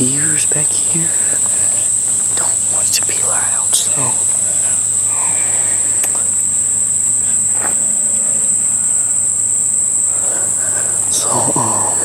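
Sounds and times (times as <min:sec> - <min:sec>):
faint clicks: 0:00.0 - 0:12.0
insects chirring: 0:00.0 - 0:12.0.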